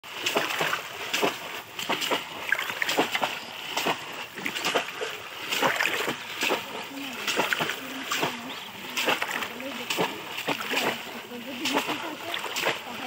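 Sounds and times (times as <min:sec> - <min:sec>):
fish traps splashing in water: 0:00.0 - 0:13.0
legs wading and sloshing: 0:00.0 - 0:13.0.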